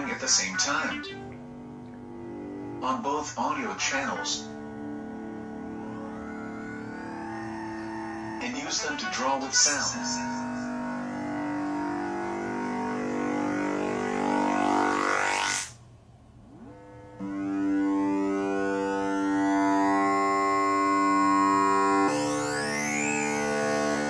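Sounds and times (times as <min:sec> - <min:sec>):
buzzing electronic tones: 0:00.0 - 0:15.8, 0:16.4 - 0:24.0.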